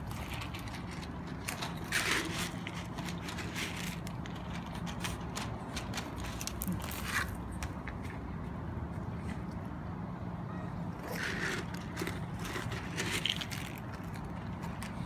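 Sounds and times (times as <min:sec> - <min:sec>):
cats crunching dry kibble: 0:00.0 - 0:09.2, 0:11.0 - 0:15.0.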